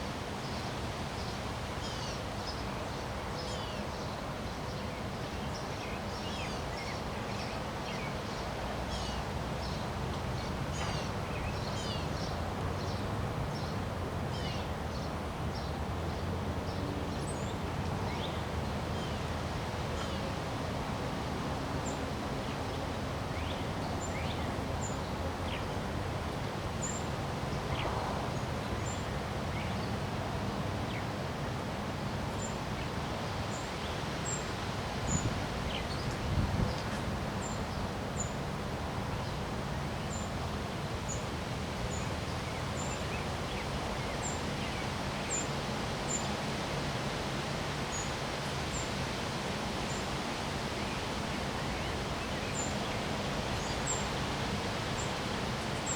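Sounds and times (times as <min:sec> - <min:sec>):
wind through rustling leaves: 0:00.0 - 0:55.9.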